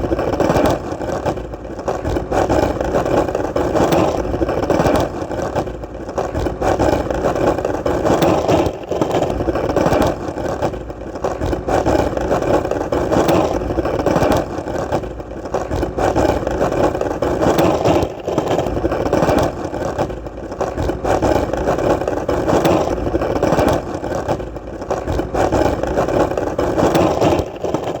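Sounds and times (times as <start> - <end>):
skateboard wheels rolling: 0.0 - 28.0.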